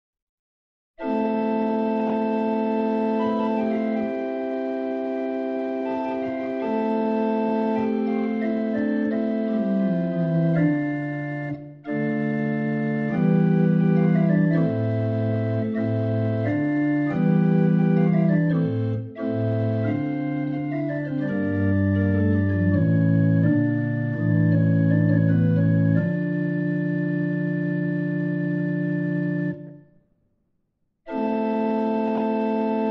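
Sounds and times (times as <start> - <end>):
organ playing slow held chords: 1.0 - 29.8, 31.1 - 32.9.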